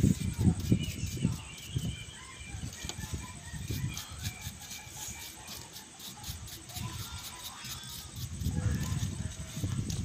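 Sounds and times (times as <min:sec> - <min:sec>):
bristle brush sweeping sand: 0:00.0 - 0:10.0
faint high chirping: 0:00.0 - 0:10.0.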